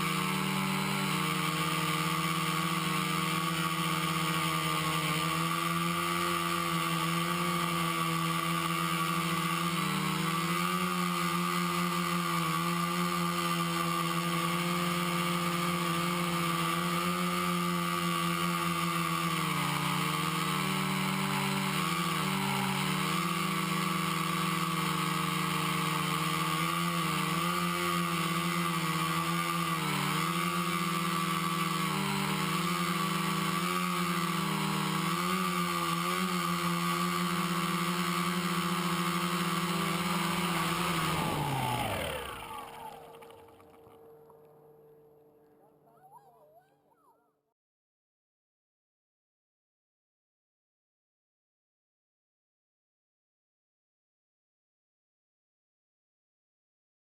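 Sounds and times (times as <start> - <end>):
quadcopter motors whirring: 0.0 - 47.3.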